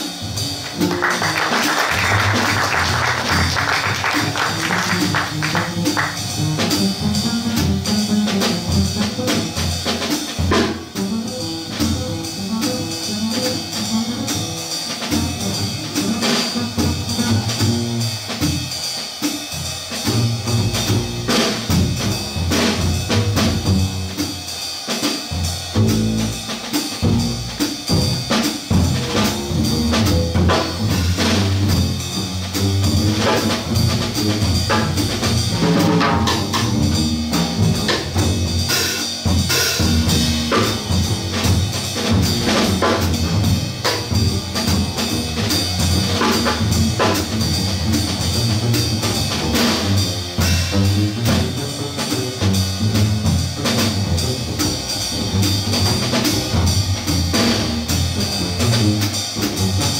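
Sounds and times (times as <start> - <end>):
plucked double bass: 0.0 - 18.8, 19.6 - 24.6, 25.3 - 59.9
drum kit playing jazz: 0.0 - 59.9.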